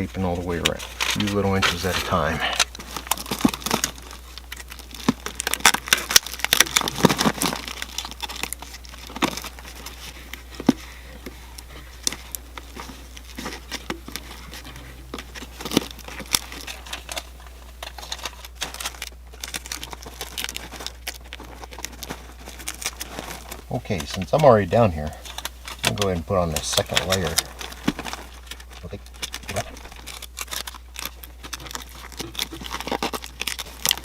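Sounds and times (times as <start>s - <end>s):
foil tape crinkling: 0.0s - 34.0s.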